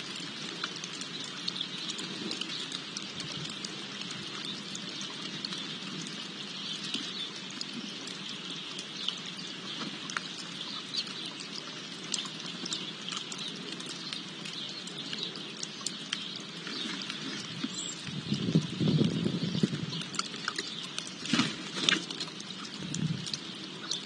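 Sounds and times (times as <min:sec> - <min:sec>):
small irregular ticks and pattering: 0:00.0 - 0:24.0.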